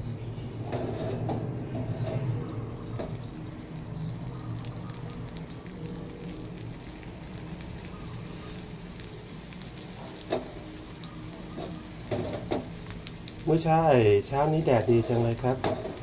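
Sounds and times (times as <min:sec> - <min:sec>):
egg sizzling in hot oil: 0:00.0 - 0:16.0.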